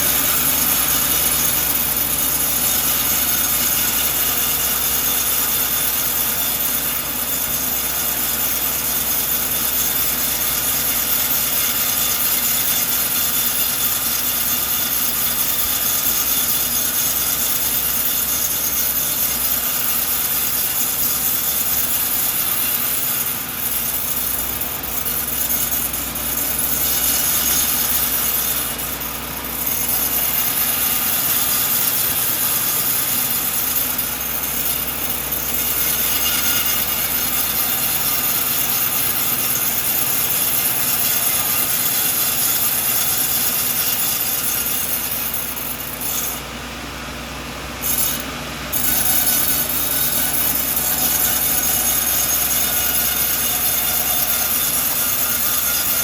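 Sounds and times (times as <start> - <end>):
saw blade cutting log: 0.0 - 46.5, 47.8 - 56.0.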